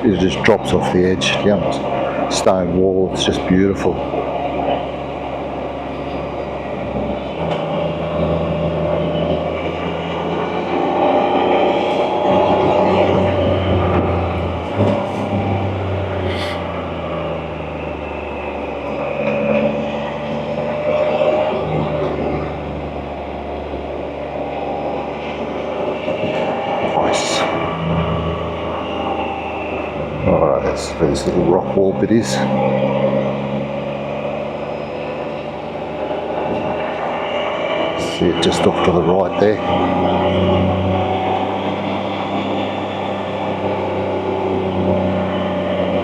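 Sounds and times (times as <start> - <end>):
motorcycle engine humming: 0.0 - 46.0
wind and road noise: 0.0 - 46.0.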